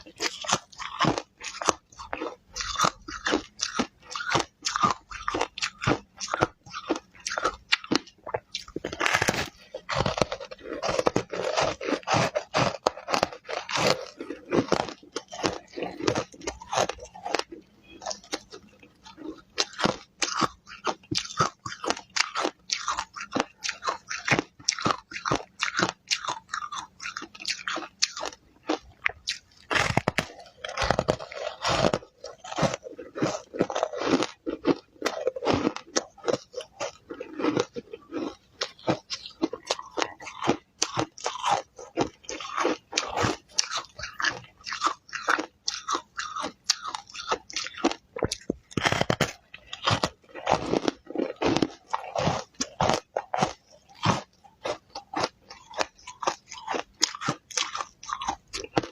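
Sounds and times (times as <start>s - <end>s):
ice crunching while chewed: 0.0s - 58.9s.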